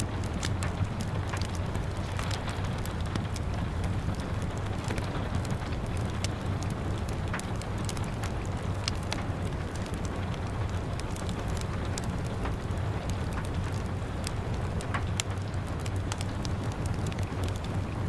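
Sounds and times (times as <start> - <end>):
rain pattering on window glass: 0.0 - 18.0
wood fire crackling: 0.0 - 18.0.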